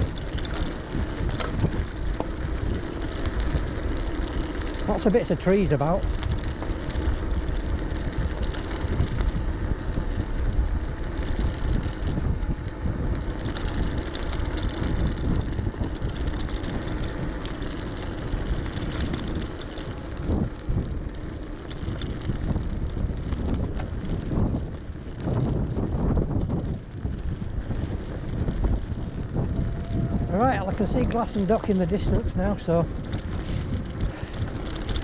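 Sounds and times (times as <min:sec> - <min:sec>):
tyres rumbling on path: 0:00.0 - 0:35.0
wind on camera microphone: 0:00.0 - 0:35.0.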